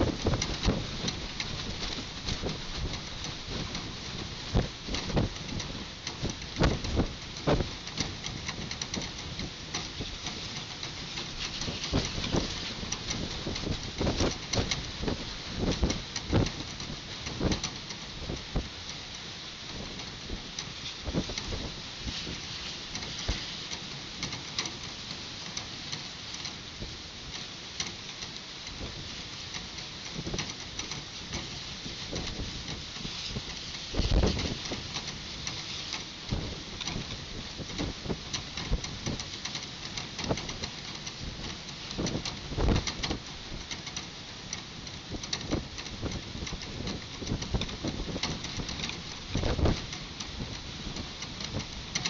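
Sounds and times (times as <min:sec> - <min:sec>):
wind gusting over microphone: 0:00.0 - 0:18.9, 0:19.6 - 0:23.6, 0:30.1 - 0:39.3, 0:40.2 - 0:43.8, 0:45.1 - 0:52.0
low wind buffeting thumps: 0:00.0 - 0:52.0
raindrops ticking: 0:00.0 - 0:52.0.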